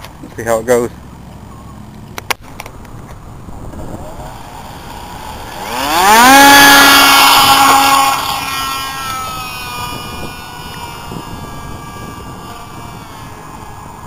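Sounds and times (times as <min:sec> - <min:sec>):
electric motor and propeller whine: 0:00.9 - 0:14.0.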